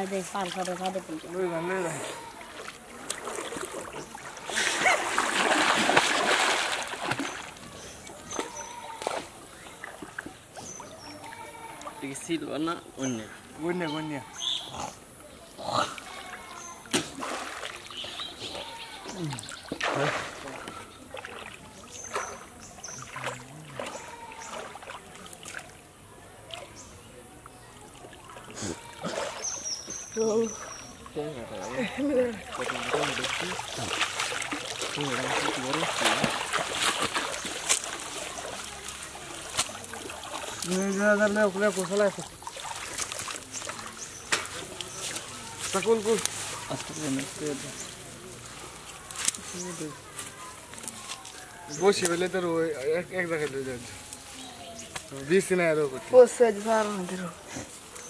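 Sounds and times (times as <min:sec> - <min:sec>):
pond water splashing: 0:00.0 - 0:58.0.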